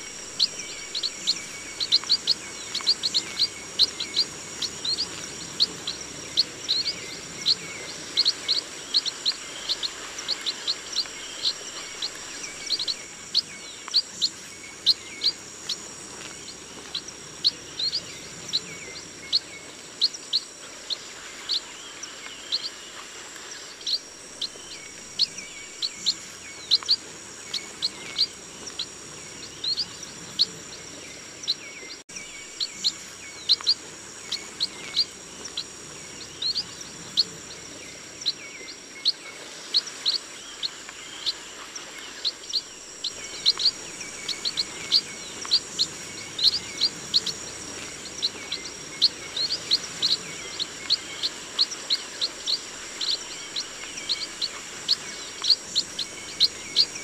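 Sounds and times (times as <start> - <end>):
birds chirping high: 0.0 - 57.0
high-pitched background hum: 0.0 - 57.0.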